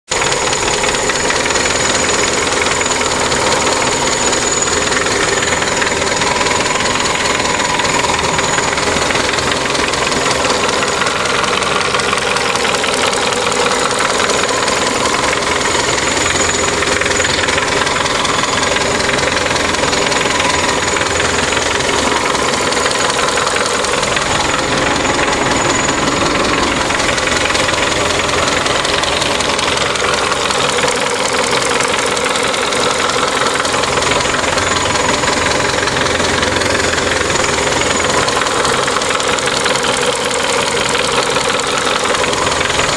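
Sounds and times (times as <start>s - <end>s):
car engine with knocking clatter: 0.0s - 42.9s.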